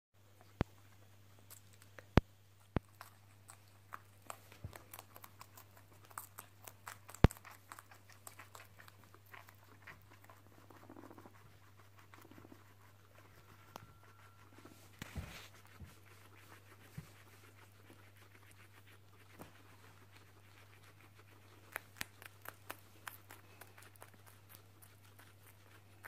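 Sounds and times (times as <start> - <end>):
guinea pigs chewing: 0.2 - 26.0.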